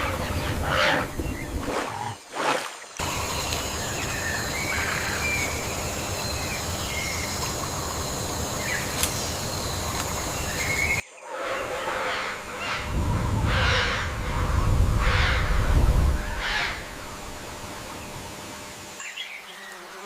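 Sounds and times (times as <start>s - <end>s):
steady rushing hiss: 0.0s - 1.6s, 2.9s - 20.0s.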